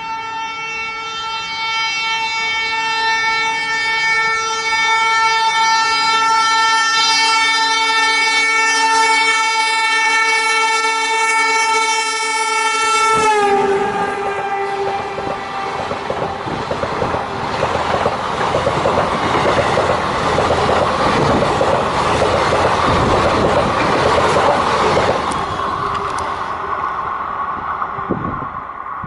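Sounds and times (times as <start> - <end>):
train passing with wheel rumble: 0.0 - 29.0
rhythmic clatter over rail joints: 1.4 - 29.0.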